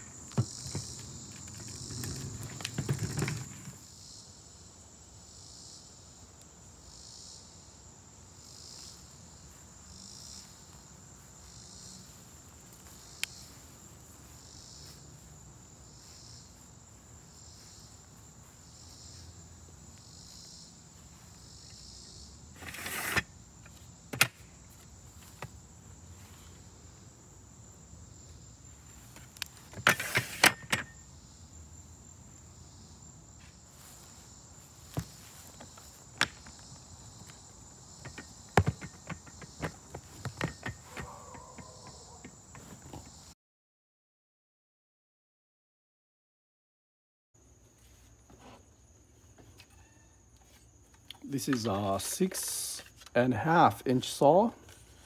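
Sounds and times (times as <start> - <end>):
high insect chorus: 0.0 - 43.4, 47.4 - 55.0.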